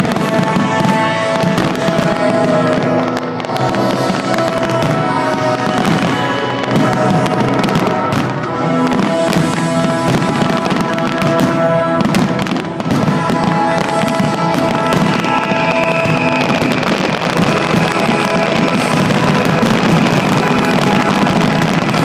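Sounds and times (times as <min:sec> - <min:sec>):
fireworks bangs: 0:00.0 - 0:22.0
loud music: 0:00.0 - 0:22.0.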